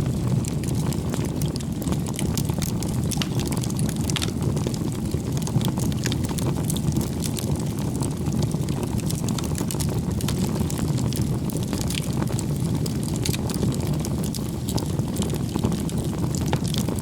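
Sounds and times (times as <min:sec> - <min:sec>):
bonfire flames roaring: 0:00.0 - 0:17.0
firewood crackling and popping: 0:00.0 - 0:17.0.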